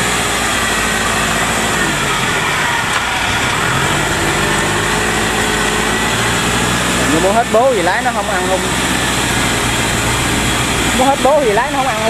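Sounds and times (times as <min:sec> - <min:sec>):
tracked vehicle engine running: 0:00.0 - 0:12.0.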